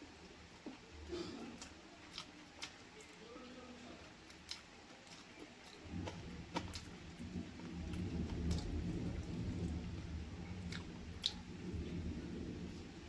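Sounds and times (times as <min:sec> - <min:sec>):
chewing: 0:00.2 - 0:12.2.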